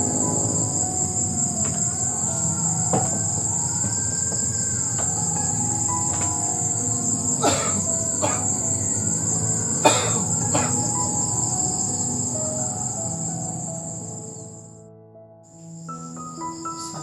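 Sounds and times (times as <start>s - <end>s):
insect chorus: 0.0s - 14.8s, 15.5s - 17.0s.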